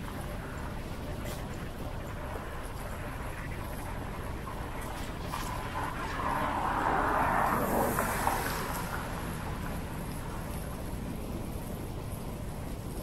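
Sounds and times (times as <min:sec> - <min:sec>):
car tyres on wet road: 0:00.0 - 0:13.0
steady low rumble: 0:00.0 - 0:13.0.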